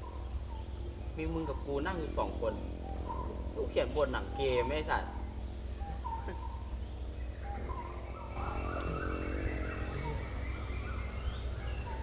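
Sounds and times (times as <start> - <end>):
birds calling: 0.0 - 12.0
steady low outdoor rumble: 0.0 - 12.0.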